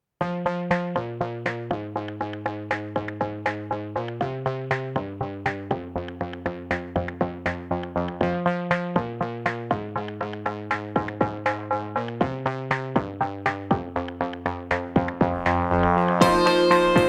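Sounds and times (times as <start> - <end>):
upbeat electronic music: 0.3 - 17.0.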